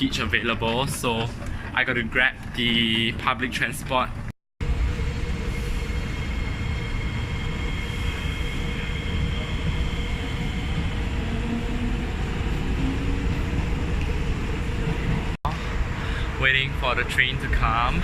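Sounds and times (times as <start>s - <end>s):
metro train rumble: 0.0s - 18.0s.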